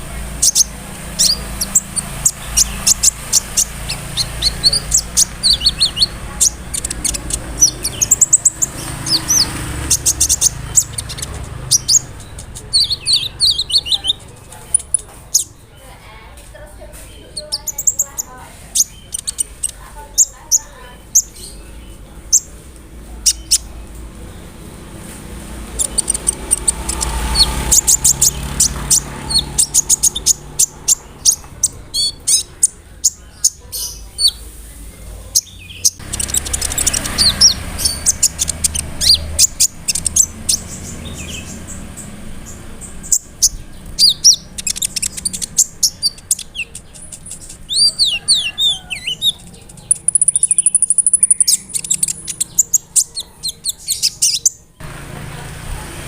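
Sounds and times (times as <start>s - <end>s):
bird chirping and trilling: 0.0s - 16.0s, 17.0s - 54.8s.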